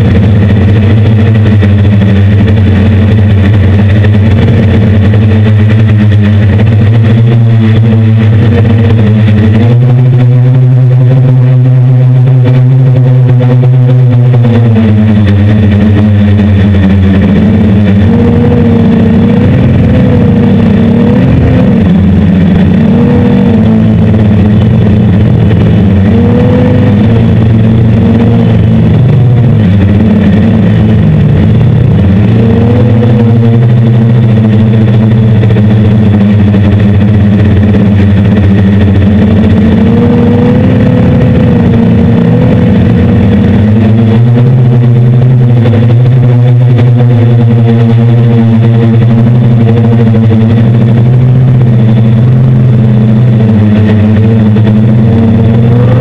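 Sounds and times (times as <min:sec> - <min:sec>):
drone motors and propellers: 0:00.0 - 0:56.0.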